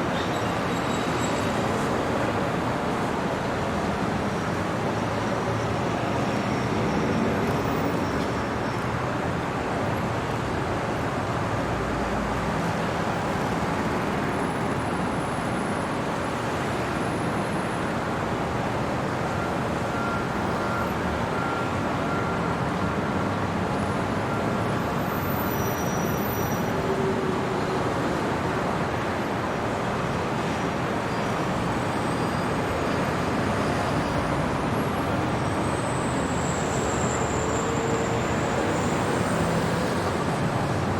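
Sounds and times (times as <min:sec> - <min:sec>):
distant road traffic: 0:00.0 - 0:40.9.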